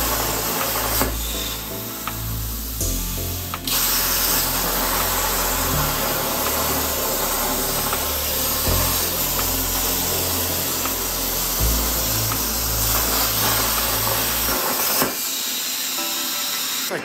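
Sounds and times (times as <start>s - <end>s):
plasma cutter hissing: 0.0s - 17.0s.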